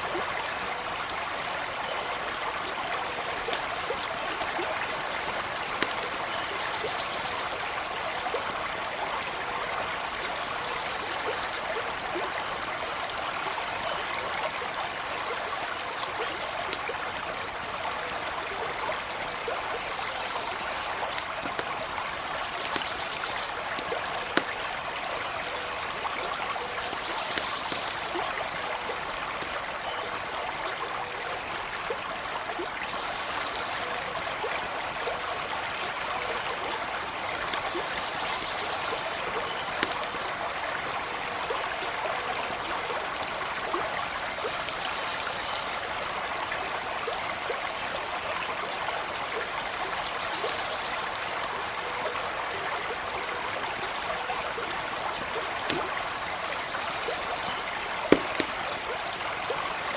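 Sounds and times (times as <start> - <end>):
small crackles: 0.0 - 46.1, 47.0 - 59.9
creek running over stones: 0.0 - 59.9.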